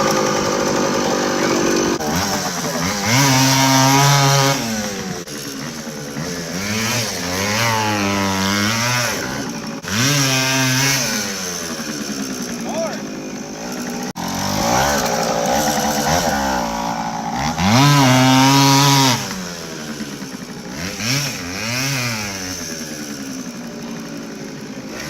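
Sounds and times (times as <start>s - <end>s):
moped engine revving: 0.0s - 25.0s.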